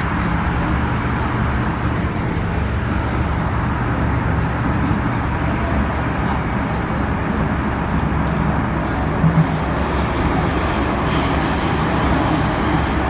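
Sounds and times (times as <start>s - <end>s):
train wheels and air rumbling: 0.0s - 13.0s.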